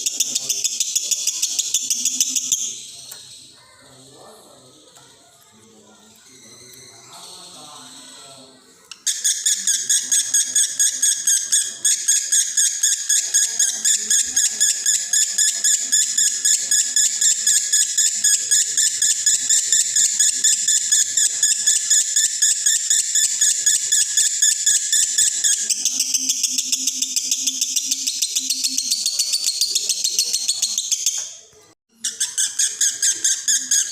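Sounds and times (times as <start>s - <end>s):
lovebird chattering song: 0.0s - 4.0s, 8.9s - 31.4s, 32.0s - 33.9s.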